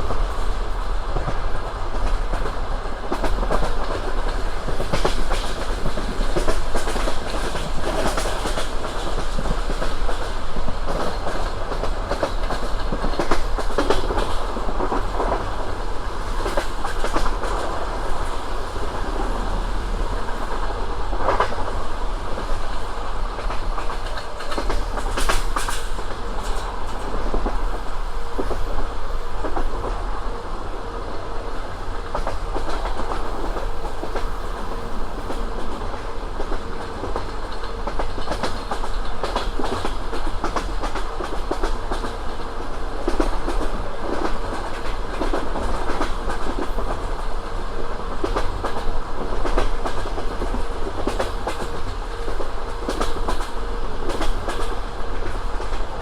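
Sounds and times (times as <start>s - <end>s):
train wheels clacking: 0.0s - 56.0s.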